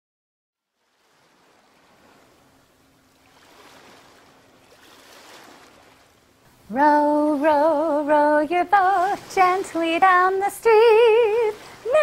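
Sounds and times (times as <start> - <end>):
faint water waves washing: 0.6 - 12.0.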